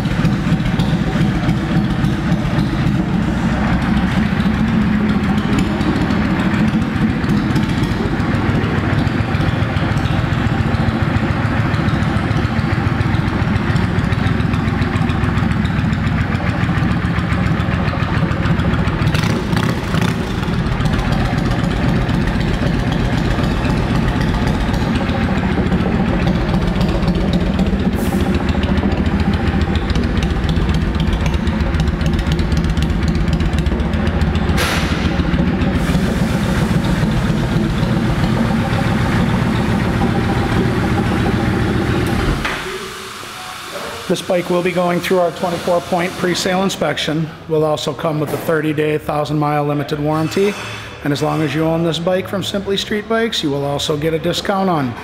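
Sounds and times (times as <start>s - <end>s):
motorcycle engine idling: 0.0s - 47.5s.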